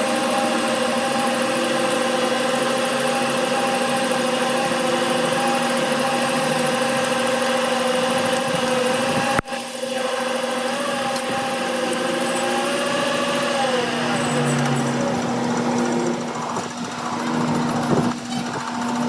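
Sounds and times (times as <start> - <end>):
workshop machine humming: 0.0 - 19.0.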